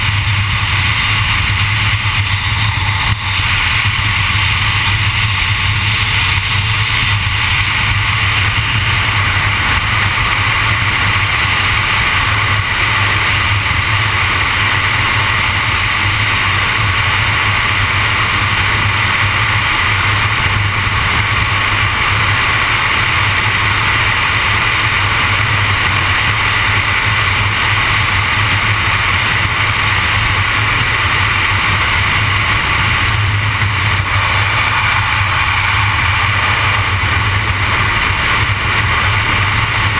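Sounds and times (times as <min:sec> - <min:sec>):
low drone: 0:00.0 - 0:39.9
road and wind noise: 0:00.0 - 0:39.9.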